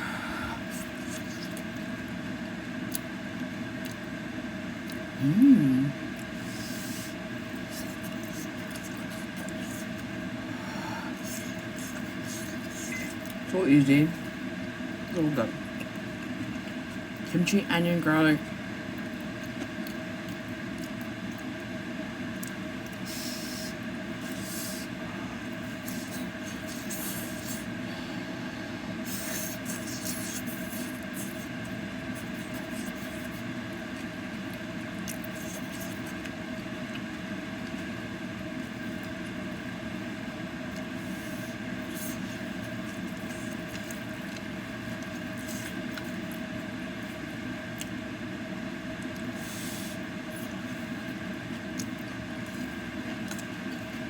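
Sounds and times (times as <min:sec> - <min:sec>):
kitchen exhaust fan humming: 0:00.0 - 0:54.0.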